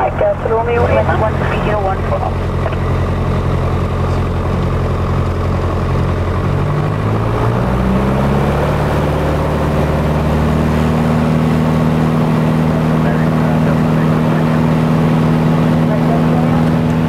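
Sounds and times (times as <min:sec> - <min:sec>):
propeller plane engine: 0:00.0 - 0:17.0.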